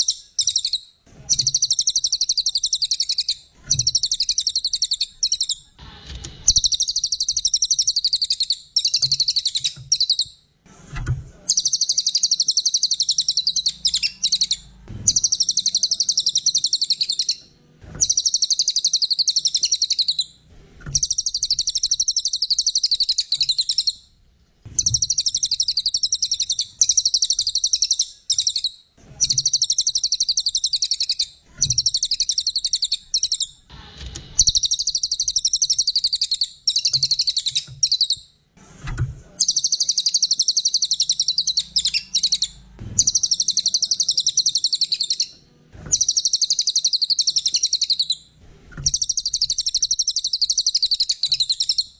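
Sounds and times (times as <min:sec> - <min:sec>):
bird twittering trills: 0:00.0 - 0:05.7, 0:06.5 - 0:10.4, 0:11.5 - 0:17.4, 0:18.0 - 0:24.0, 0:24.8 - 0:33.6, 0:34.4 - 0:38.2, 0:39.4 - 0:45.3, 0:45.9 - 0:48.2, 0:48.8 - 0:51.9.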